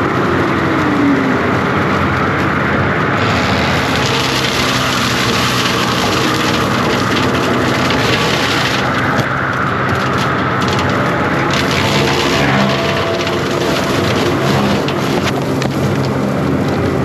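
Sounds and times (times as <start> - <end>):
diesel engine under load: 0.0 - 17.0
hydraulic cutter chewing brush: 3.1 - 17.0.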